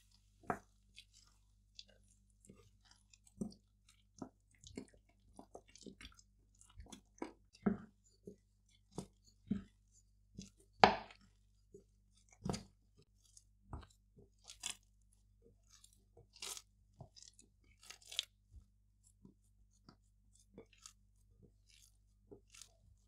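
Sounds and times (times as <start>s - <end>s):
sticky dough squelching: 0.0s - 23.0s.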